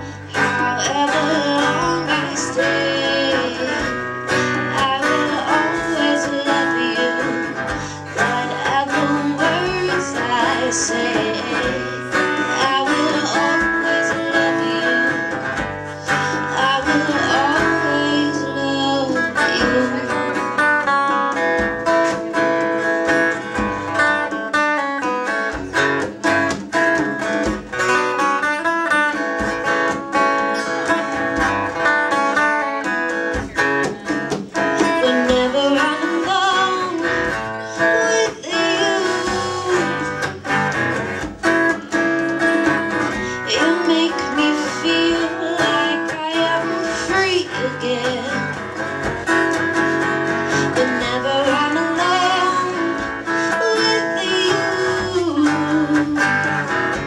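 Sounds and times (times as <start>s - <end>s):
woman singing: 0.0s - 25.9s, 30.4s - 57.0s
strummed acoustic guitar: 0.0s - 57.0s.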